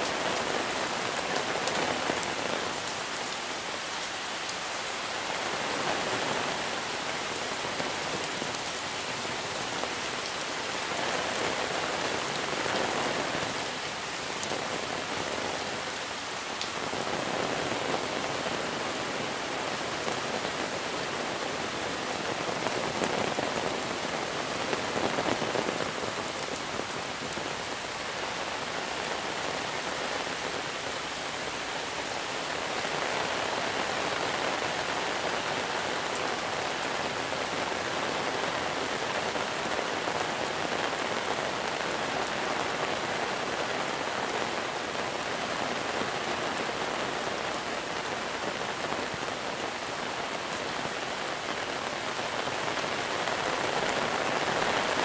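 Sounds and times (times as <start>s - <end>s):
rain pattering on surfaces: 0.0s - 55.0s.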